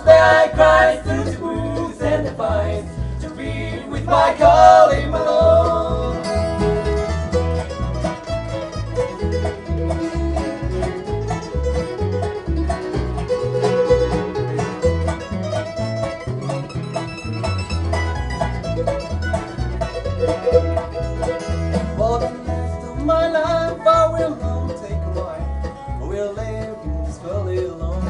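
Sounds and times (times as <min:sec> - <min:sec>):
banjo picking: 0:00.0 - 0:28.0
guitar picking: 0:00.0 - 0:28.0
steady bass notes: 0:00.0 - 0:28.0.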